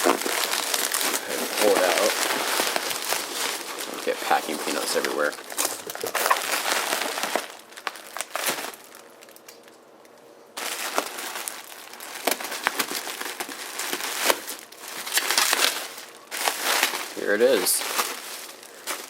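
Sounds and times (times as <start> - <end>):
packing material rustling: 0.0 - 9.8, 10.6 - 19.0.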